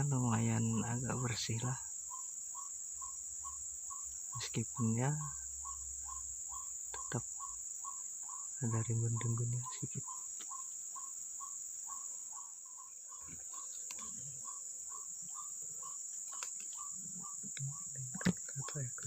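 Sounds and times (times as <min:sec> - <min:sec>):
crickets buzzing: 0:00.0 - 0:19.0.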